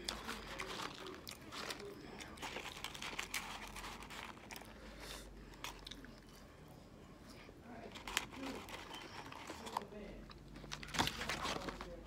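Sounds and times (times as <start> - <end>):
chewing fries: 0.0 - 12.0.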